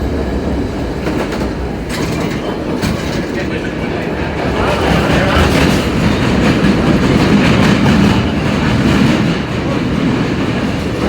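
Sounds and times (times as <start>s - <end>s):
faint clickety-clack of rails: 0.0s - 11.0s
subway wheels rumbling: 0.0s - 11.0s.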